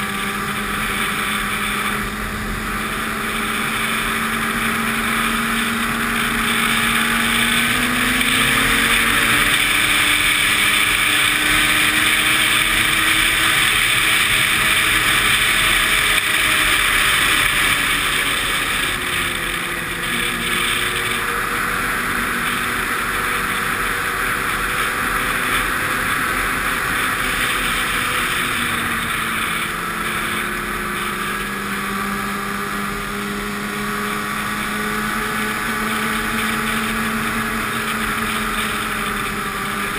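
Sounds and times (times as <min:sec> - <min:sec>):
snowmobile engine running: 0:00.0 - 0:39.9
track and wind hiss: 0:00.0 - 0:39.9.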